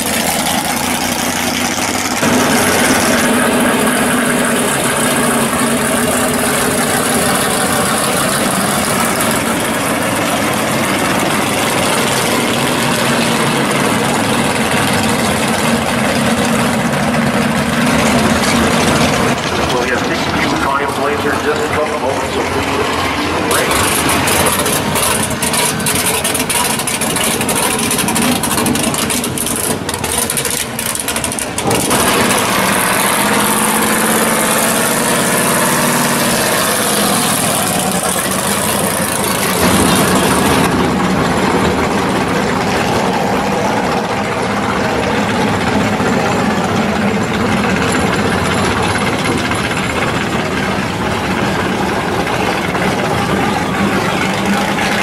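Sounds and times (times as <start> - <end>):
car engines idling and blipping: 0.0 - 55.0.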